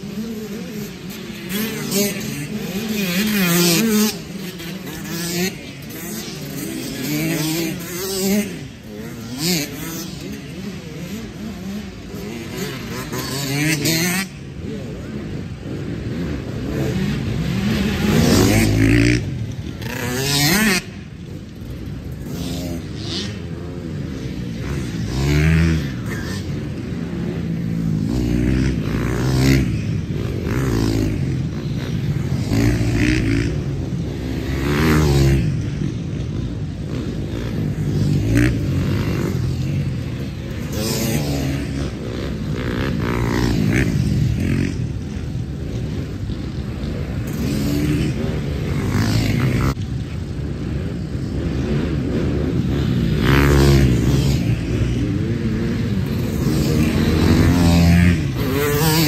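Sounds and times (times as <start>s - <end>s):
dirt bikes racing past: 0.0s - 59.0s.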